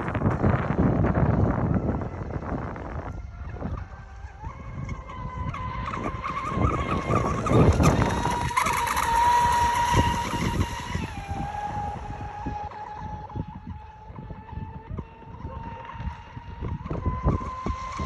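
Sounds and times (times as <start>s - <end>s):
rc speedboat motor whine: 0.0s - 18.0s.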